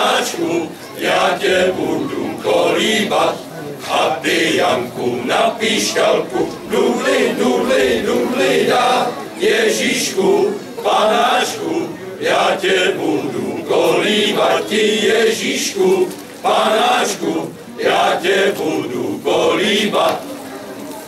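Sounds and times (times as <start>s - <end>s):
male voice choir singing: 0.0s - 20.2s.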